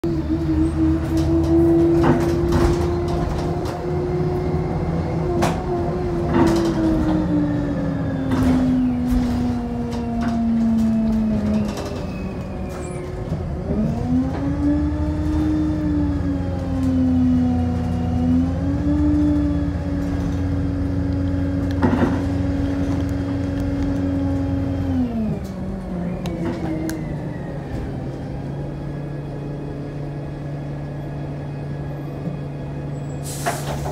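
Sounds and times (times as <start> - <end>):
bus engine humming and whining: 0.0 - 33.9.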